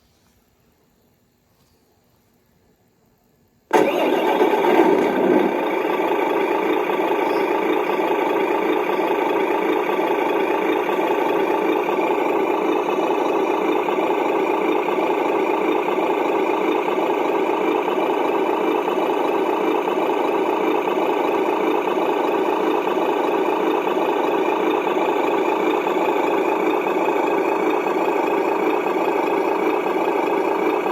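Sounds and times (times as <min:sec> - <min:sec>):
simulated truck engine from small speaker: 0:03.7 - 0:30.9.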